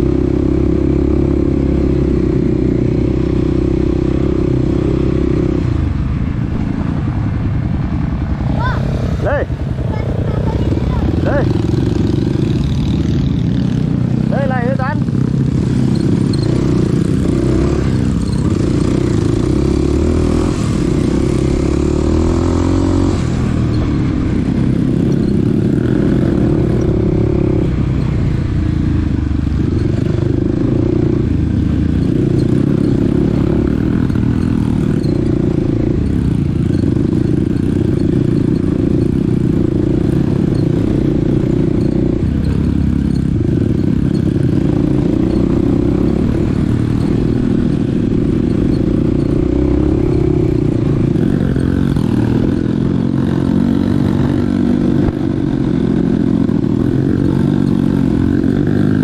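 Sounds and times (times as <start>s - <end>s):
dirt bike engine revving: 8.2s - 59.0s.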